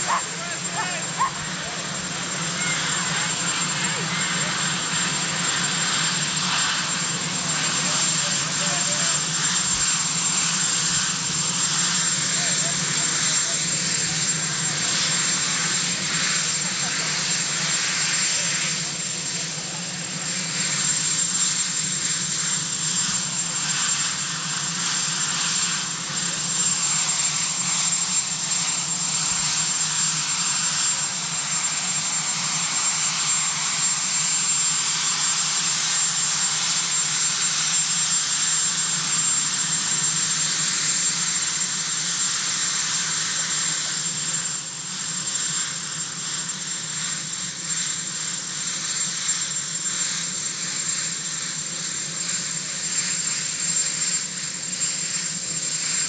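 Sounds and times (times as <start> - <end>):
helicopter turbine engines running: 0.0 - 56.0.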